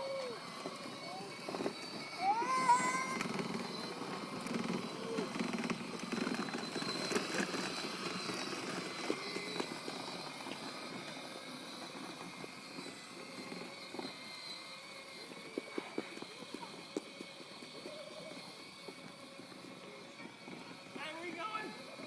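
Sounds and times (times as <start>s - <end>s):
toy car electric motor whining: 0.0s - 22.0s.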